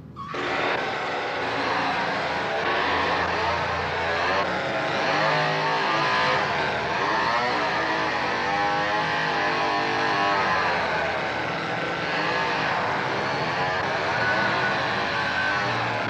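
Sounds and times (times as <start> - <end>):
chainsaw revving: 0.3 - 16.0.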